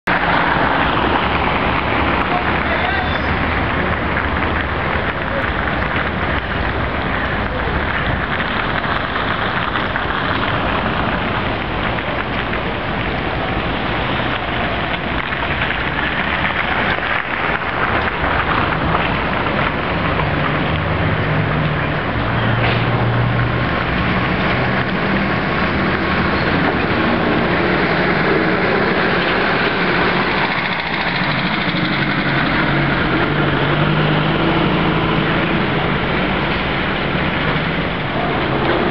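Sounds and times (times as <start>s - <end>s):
traffic noise: 0.0s - 38.9s
trolleybus hum: 0.1s - 38.9s
tyres hissing on wet road: 0.1s - 38.9s.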